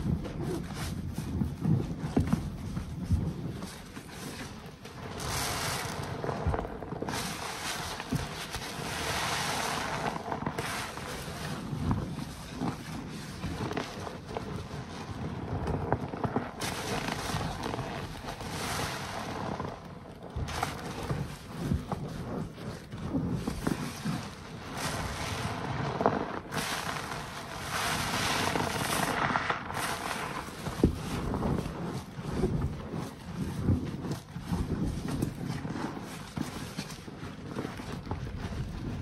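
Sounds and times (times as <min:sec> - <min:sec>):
foam hissing: 0:00.0 - 0:13.4, 0:16.5 - 0:19.8, 0:20.4 - 0:35.2
sponge squishing in suds: 0:00.0 - 0:39.0.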